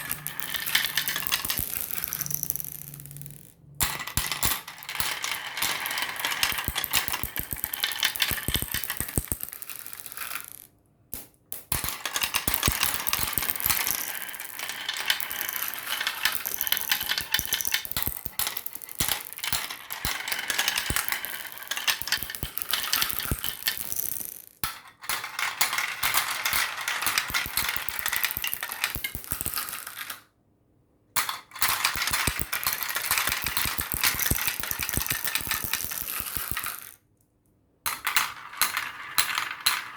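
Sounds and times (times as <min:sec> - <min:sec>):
marbles rolling down a track: 0:00.0 - 0:10.7, 0:11.7 - 0:30.2, 0:31.4 - 0:37.0, 0:37.9 - 0:39.9.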